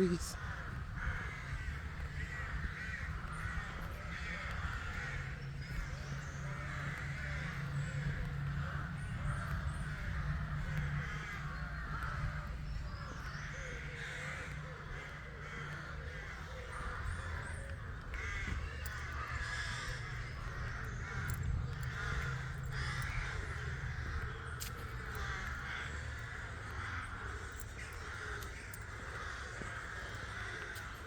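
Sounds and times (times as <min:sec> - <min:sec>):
ravens cawing: 0:00.0 - 0:31.0.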